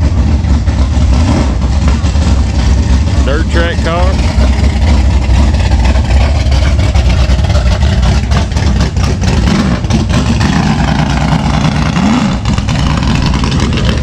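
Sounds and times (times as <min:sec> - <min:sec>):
car engine running: 0:00.0 - 0:14.0
heavy low rumble: 0:00.0 - 0:14.0.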